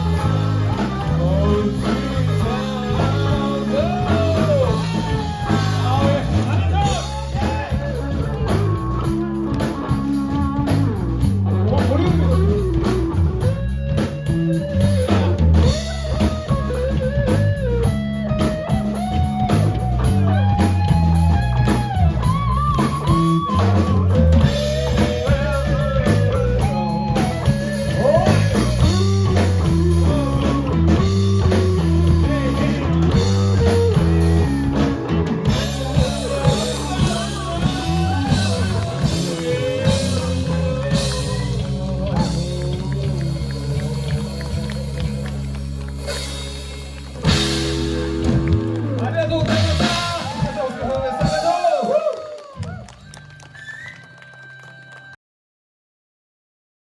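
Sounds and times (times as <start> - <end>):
rock guitar melody: 0.0 - 51.4
bass line: 0.0 - 51.8
drum kit: 0.0 - 52.8.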